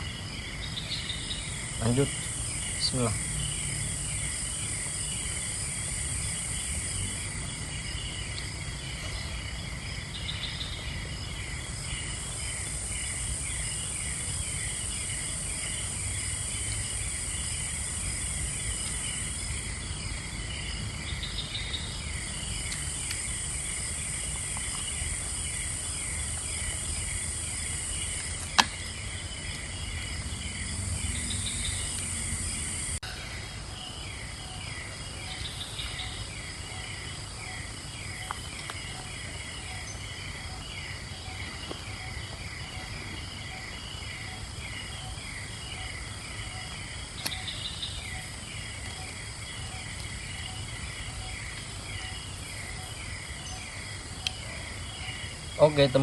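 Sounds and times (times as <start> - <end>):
cricket chirping: 0.0 - 56.0
insects buzzing: 0.0 - 56.0.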